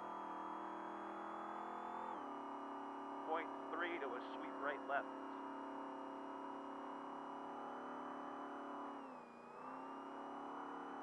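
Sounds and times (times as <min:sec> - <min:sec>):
race truck engine at high revs: 0:00.0 - 0:11.0.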